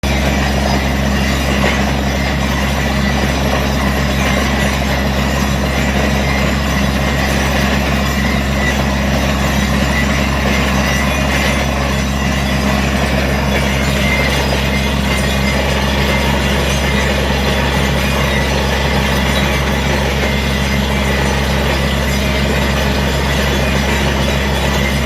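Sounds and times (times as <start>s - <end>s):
large engine running: 0.0s - 25.0s
mechanical rattle and clatter: 0.0s - 25.0s.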